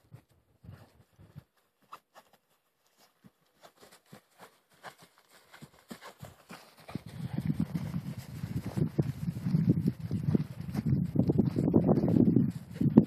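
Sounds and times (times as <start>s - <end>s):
footsteps crunching on frosty grass: 0.7s - 12.9s.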